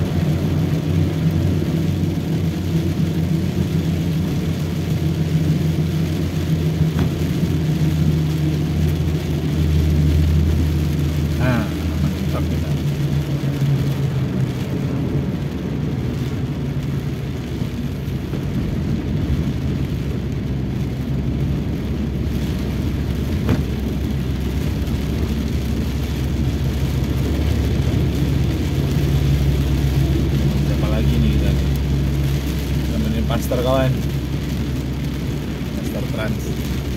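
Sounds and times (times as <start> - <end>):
car engine and road drone: 0.0 - 36.9
tyres hissing on wet road: 0.0 - 36.9.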